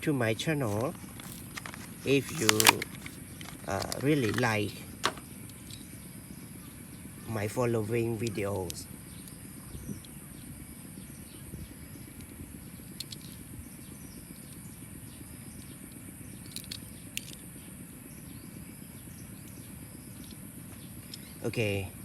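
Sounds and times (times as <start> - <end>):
low background hum and hiss: 0.0 - 22.0.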